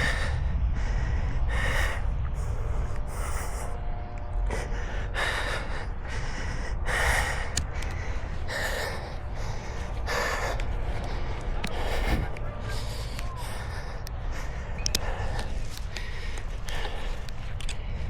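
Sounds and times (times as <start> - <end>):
person breathing hard and gasping: 0.0 - 18.0.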